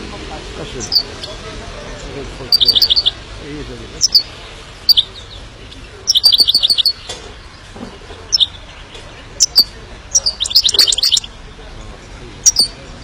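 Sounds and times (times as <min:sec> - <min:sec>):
bird twittering: 0:00.7 - 0:03.2, 0:04.0 - 0:11.4, 0:12.4 - 0:12.9
bird chirps: 0:00.8 - 0:03.2, 0:04.0 - 0:13.0.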